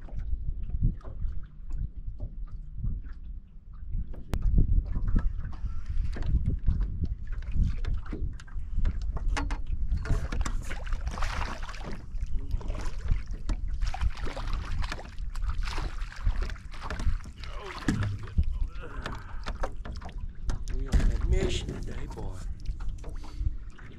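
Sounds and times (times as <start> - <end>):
water splashing against boat hull: 0.0 - 23.9
wind buffeting microphone: 0.0 - 23.9.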